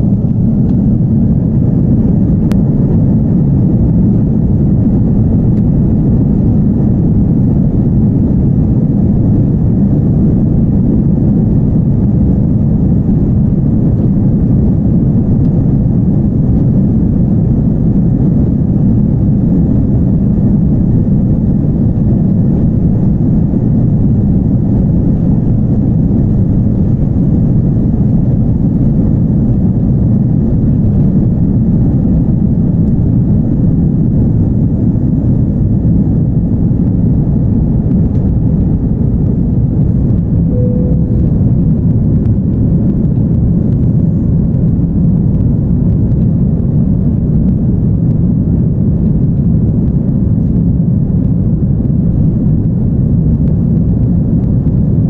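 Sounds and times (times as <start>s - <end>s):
jet engine rumble in cabin: 0.0s - 55.0s.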